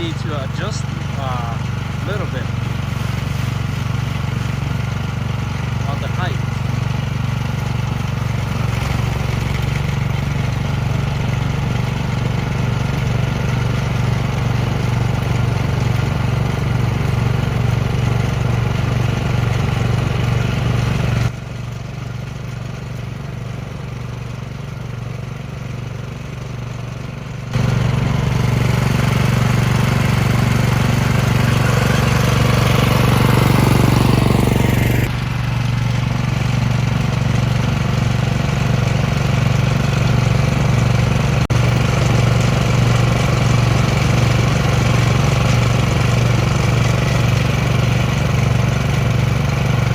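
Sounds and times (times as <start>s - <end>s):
snow blower engine running: 0.0s - 49.9s.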